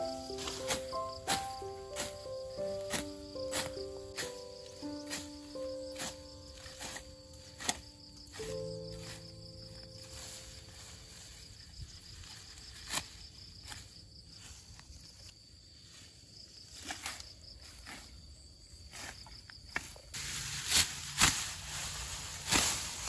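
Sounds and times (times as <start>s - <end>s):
crickets chirring: 0.0s - 23.0s
sickle cutting grass: 0.0s - 23.0s.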